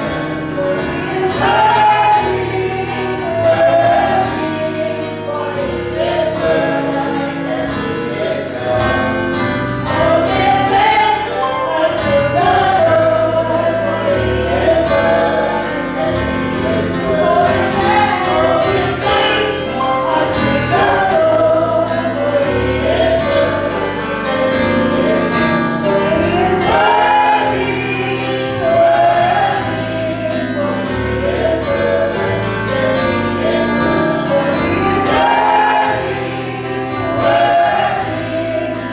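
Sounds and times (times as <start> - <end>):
band accompaniment: 0.0 - 38.9
choir singing gospel: 0.0 - 38.9.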